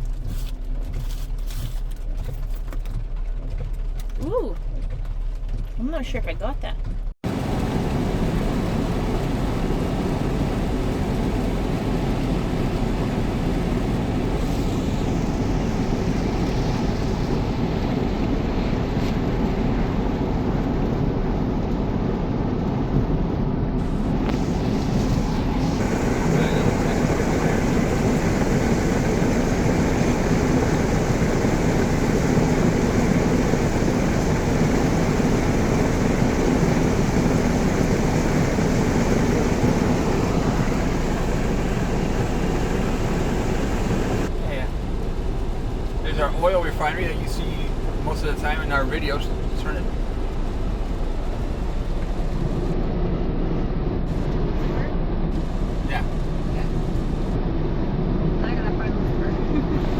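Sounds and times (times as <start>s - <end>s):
road and engine noise inside car: 0.0s - 59.9s.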